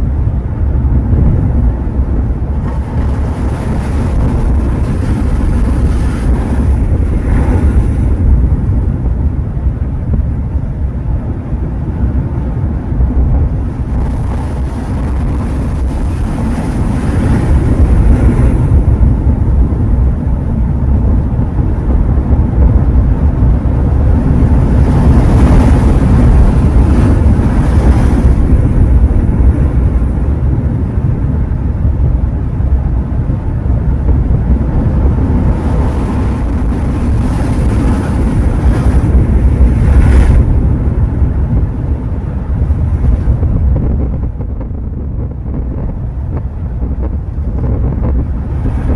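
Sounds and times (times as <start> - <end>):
ocean surf on shore: 0.0 - 45.0
wind rumble on microphone: 0.0 - 48.9.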